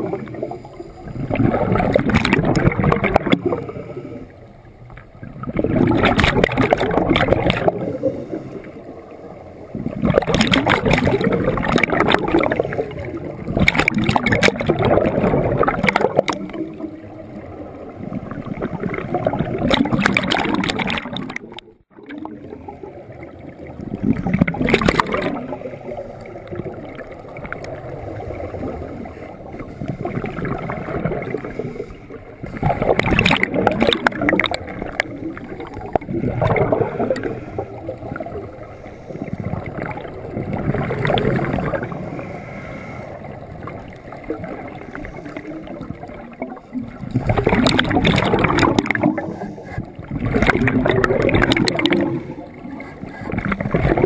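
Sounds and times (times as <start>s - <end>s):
exhaled bubbles underwater: 0.0s - 54.0s.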